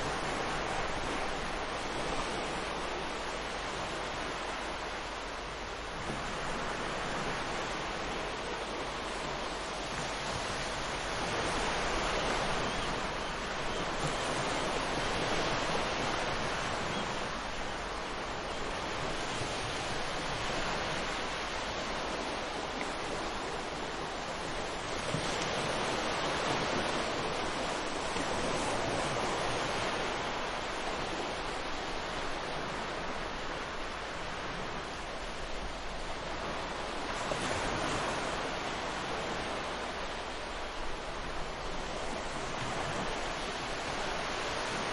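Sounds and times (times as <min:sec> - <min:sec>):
ocean waves on a shore: 0:00.0 - 0:44.9.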